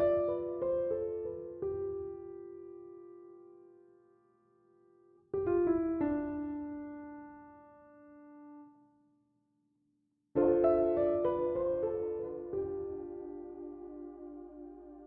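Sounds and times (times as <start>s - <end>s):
slow piano music: 0.0s - 9.0s, 10.4s - 15.0s.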